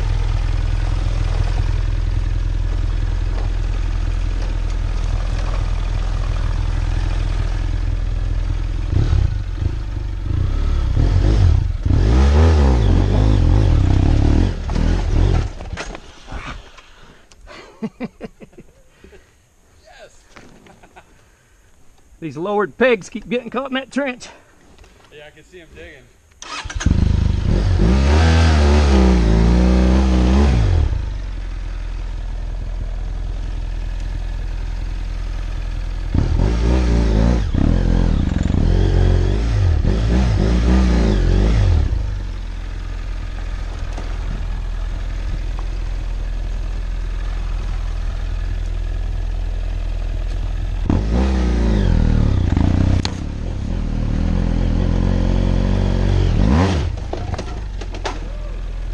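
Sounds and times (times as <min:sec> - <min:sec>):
motorcycle engine revving: 0:00.0 - 0:15.8, 0:26.4 - 0:58.9.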